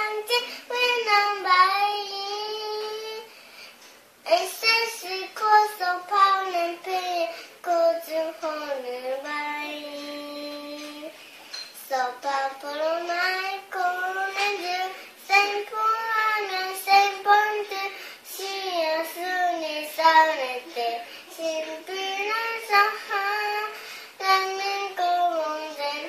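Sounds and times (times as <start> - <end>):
girl singing: 0.0 - 3.4, 4.2 - 26.0.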